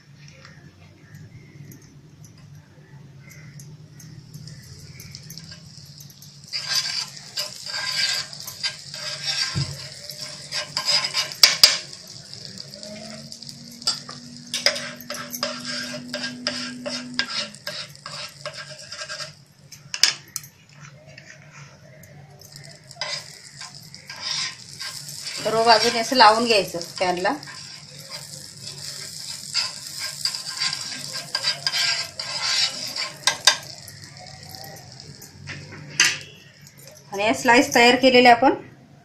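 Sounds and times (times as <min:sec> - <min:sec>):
butter sizzling in a pan: 0:03.2 - 0:37.8
spoon clicking and scraping pan: 0:03.3 - 0:37.1.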